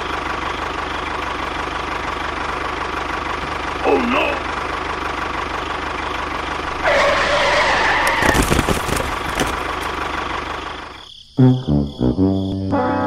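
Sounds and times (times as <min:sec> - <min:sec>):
tractor engine running: 0:00.0 - 0:11.2.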